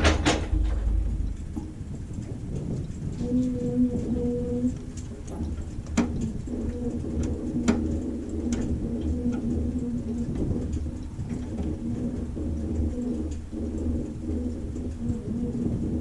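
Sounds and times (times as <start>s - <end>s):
sharp clicks and rattles: 0.0s - 16.0s.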